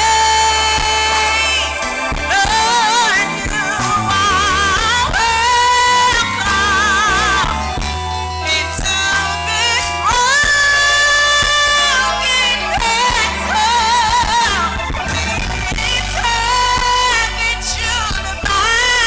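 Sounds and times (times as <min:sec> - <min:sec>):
bass accompaniment: 0:00.0 - 0:19.0
gospel singing: 0:00.0 - 0:19.0.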